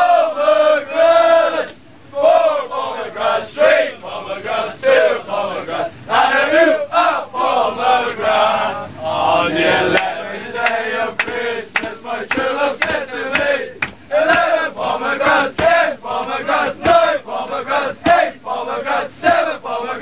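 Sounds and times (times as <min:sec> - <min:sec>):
crowd chanting and singing: 0:00.0 - 0:20.0.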